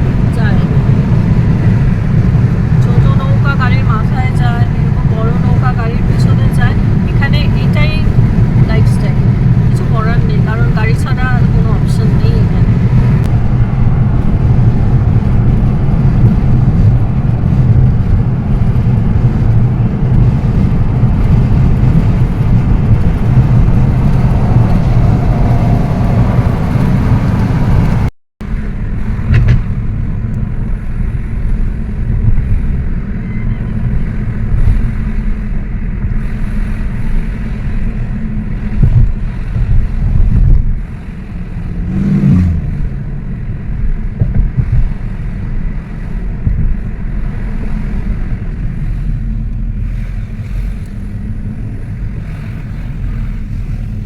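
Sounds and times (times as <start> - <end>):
road and engine noise inside car: 0.0 - 54.0.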